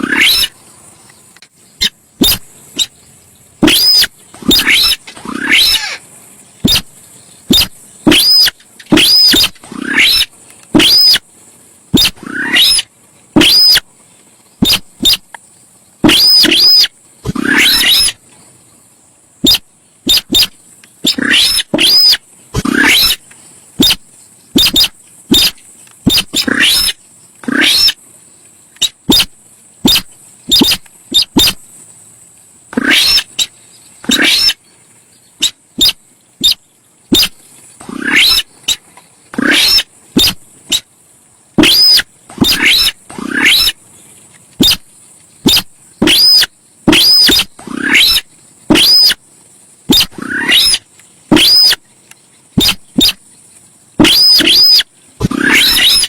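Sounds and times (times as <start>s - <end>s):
bird calling harshly: 0.0s - 0.6s, 1.8s - 3.0s, 3.6s - 11.3s, 11.9s - 13.9s, 14.6s - 15.4s, 16.0s - 18.2s, 19.4s - 28.0s, 28.8s - 31.7s, 32.7s - 34.6s, 35.4s - 40.9s, 41.6s - 43.8s, 44.6s - 49.2s, 49.9s - 51.8s, 52.6s - 53.2s, 54.0s - 56.0s
faint high hiss: 0.0s - 56.0s.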